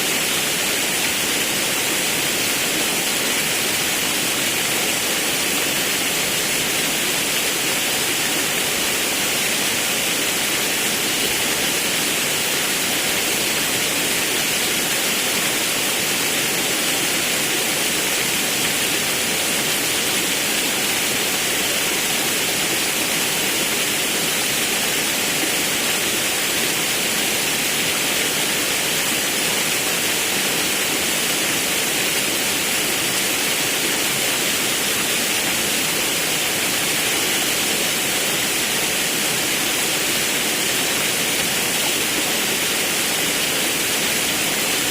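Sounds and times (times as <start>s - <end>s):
river and waterfall rushing: 0.0s - 44.9s.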